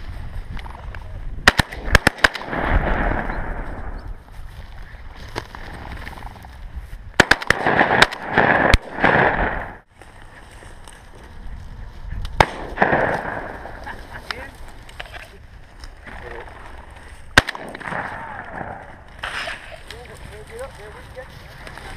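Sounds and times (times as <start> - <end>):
rustling through dry grass: 0.0 - 1.4, 2.0 - 21.9.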